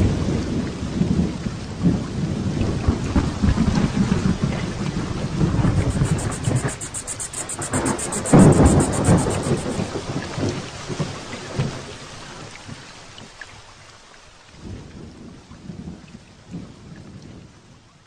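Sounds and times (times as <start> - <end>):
steady rain: 0.0 - 6.8, 7.4 - 17.9.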